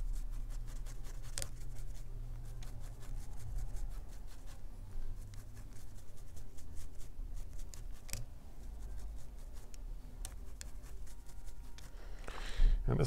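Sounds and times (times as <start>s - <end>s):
small brush scratching fibers: 0.0s - 12.0s.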